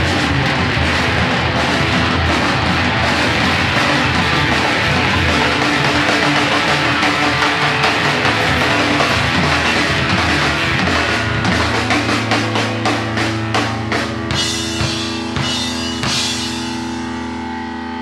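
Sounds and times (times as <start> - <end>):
drum hits: 0.0 - 17.1
rock band playing: 0.0 - 18.0.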